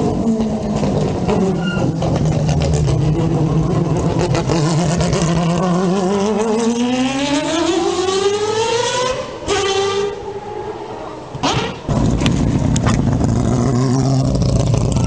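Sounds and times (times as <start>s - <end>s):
rotary engine car accelerating: 0.0s - 15.0s.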